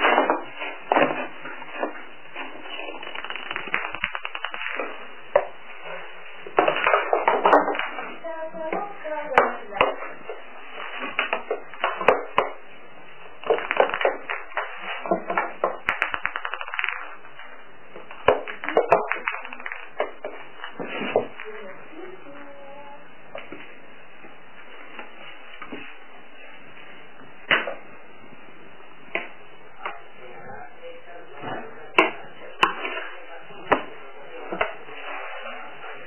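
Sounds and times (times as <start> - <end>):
voices in room: 0.0 - 36.0.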